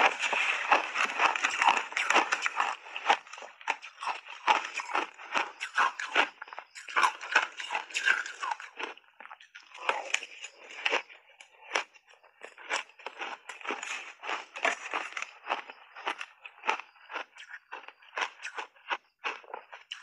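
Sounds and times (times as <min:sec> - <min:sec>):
chewing crunchy shaved ice: 0:00.0 - 0:20.0.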